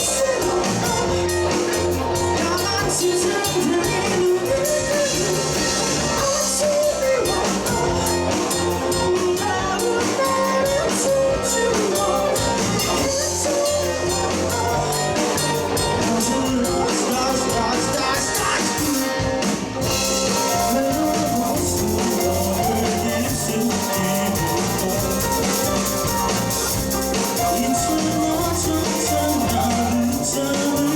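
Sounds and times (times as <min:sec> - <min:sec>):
bass guitar: 0:00.0 - 0:30.9
drum kit: 0:00.0 - 0:30.9
electric guitars: 0:00.0 - 0:30.9.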